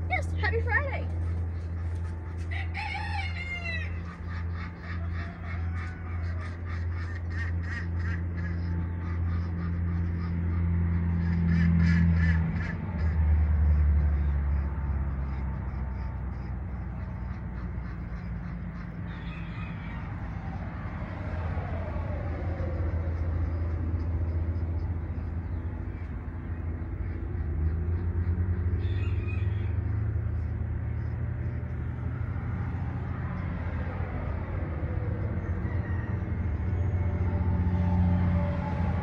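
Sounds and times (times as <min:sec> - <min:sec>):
low mechanical rumble: 0:00.0 - 0:39.0.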